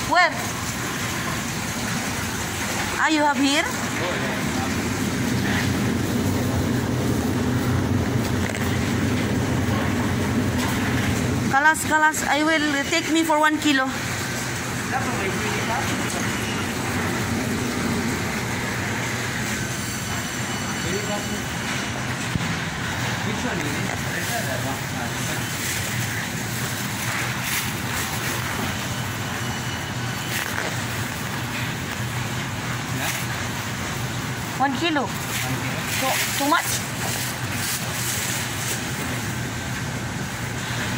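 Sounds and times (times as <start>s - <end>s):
steady low hum: 3.5s - 40.9s.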